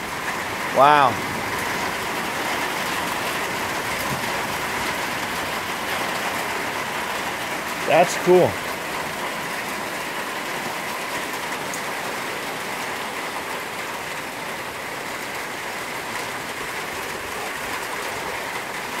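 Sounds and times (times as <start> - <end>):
heavy rain on concrete and pool: 0.0 - 19.0.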